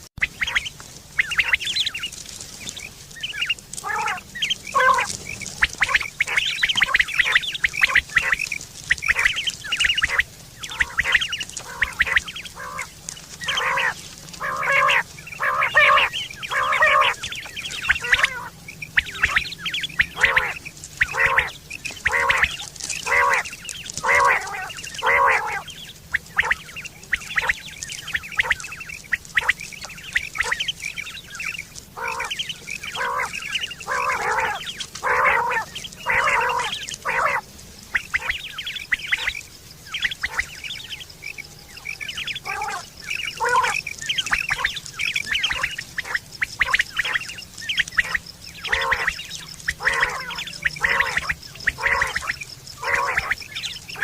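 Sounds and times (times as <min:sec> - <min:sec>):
quail calling: 0:00.0 - 0:54.0.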